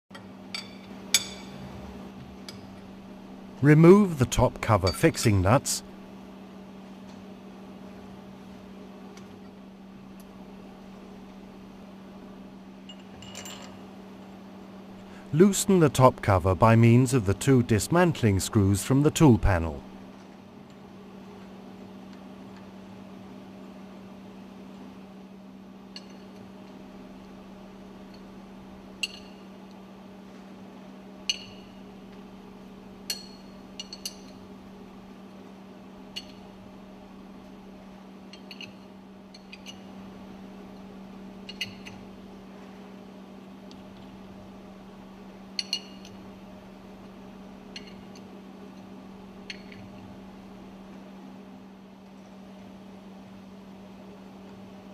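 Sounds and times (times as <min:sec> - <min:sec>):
steady low hum: 0:00.2 - 0:54.9.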